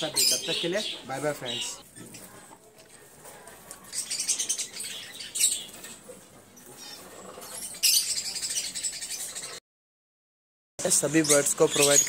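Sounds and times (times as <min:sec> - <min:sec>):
parrots chattering and chirping: 0:00.0 - 0:09.6, 0:11.0 - 0:12.0.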